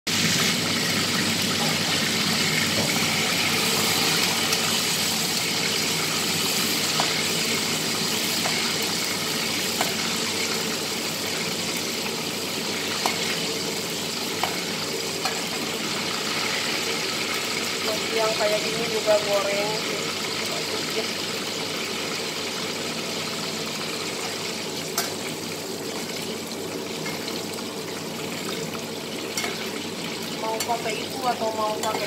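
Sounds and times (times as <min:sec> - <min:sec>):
hot oil sizzling in a wok: 0:00.1 - 0:32.0.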